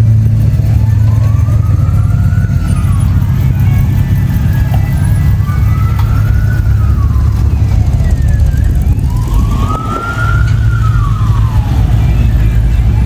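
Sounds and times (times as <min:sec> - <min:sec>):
car engines rumbling: 0:00.0 - 0:13.0
siren wailing: 0:00.0 - 0:13.0.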